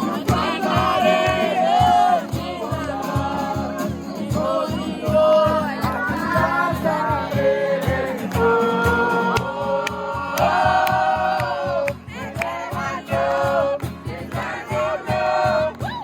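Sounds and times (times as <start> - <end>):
group singing worship song: 0.0 - 16.0.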